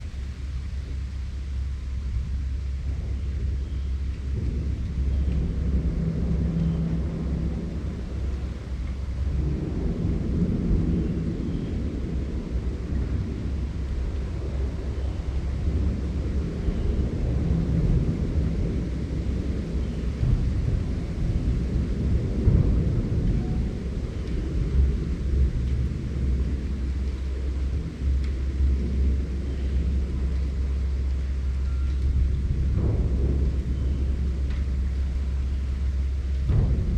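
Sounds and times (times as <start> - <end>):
wind howling through forest: 0.0 - 36.9.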